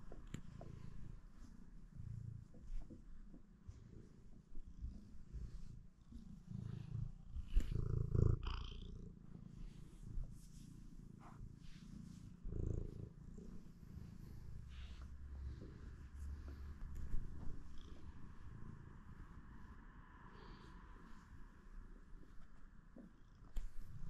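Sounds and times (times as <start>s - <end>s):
cat purring: 0.0s - 19.7s.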